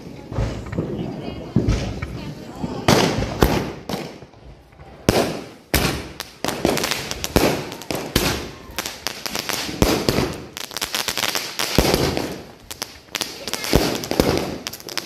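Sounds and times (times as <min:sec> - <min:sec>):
firework stars crackling: 0:00.0 - 0:15.0
firework shells banging: 0:02.8 - 0:15.0.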